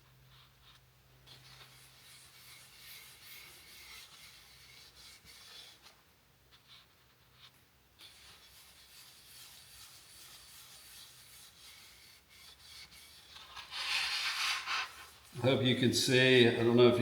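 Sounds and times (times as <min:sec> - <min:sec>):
soft rubbing on wood: 0:00.0 - 0:17.0.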